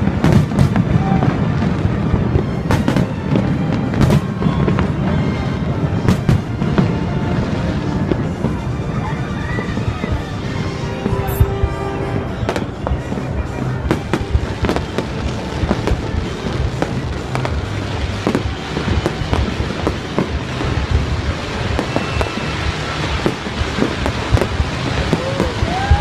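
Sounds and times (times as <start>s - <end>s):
fireworks bangs and crackles: 0.0s - 26.0s
low rumble: 3.8s - 25.0s.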